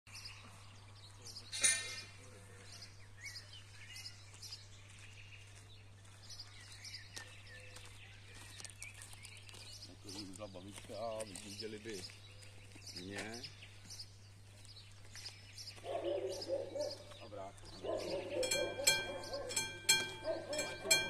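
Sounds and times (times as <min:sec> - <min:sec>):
birds chirping: 0:00.1 - 0:21.0.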